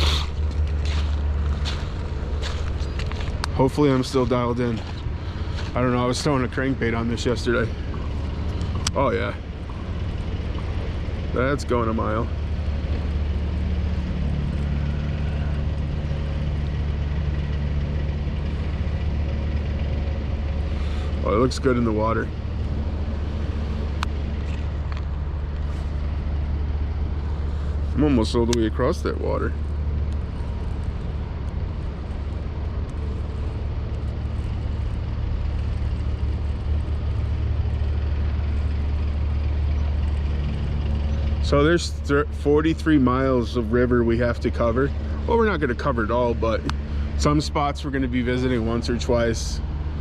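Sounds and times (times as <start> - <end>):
construction machinery engine droning: 0.0 - 50.0.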